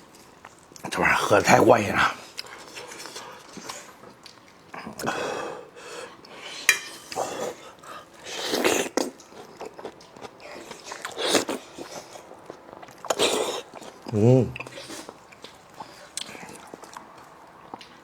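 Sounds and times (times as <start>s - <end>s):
slurping and chewing: 2.0s - 18.0s.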